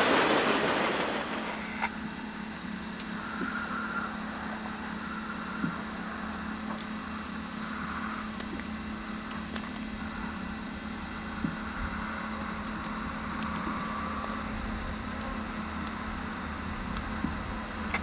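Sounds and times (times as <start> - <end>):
diesel locomotive engine drone: 0.0 - 18.0
high braking whine: 0.0 - 18.0.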